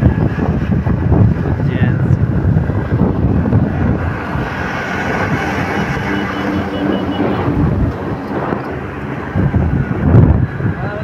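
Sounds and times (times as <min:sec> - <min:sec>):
road noise: 0:00.0 - 0:11.0
truck engine drone: 0:00.0 - 0:11.0
wind rushing over microphone: 0:00.0 - 0:11.0.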